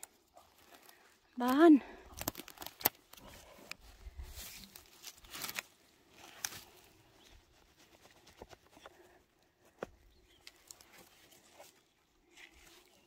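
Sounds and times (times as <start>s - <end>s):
rustling of forest-floor litter: 0.0s - 13.0s.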